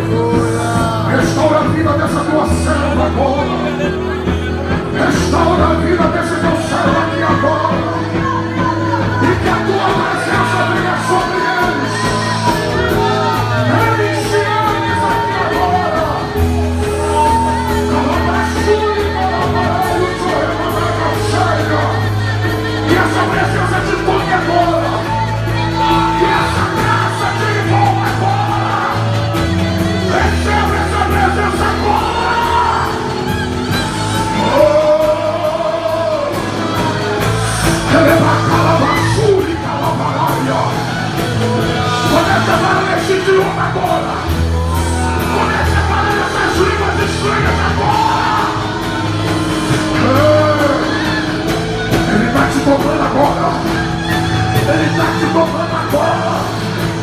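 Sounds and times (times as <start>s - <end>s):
congregation yelling: 0.0s - 57.0s
man singing through microphone: 0.0s - 57.0s.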